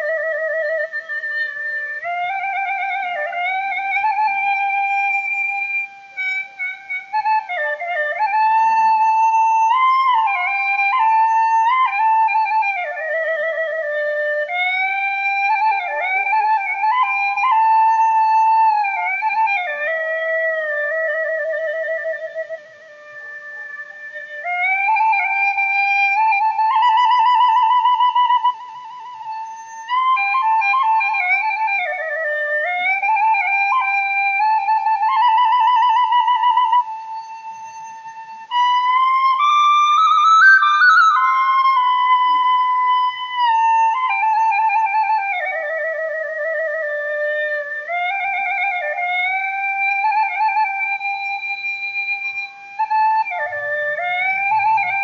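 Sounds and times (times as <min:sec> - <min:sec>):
slow flute-like melody: 0:00.0 - 0:55.0.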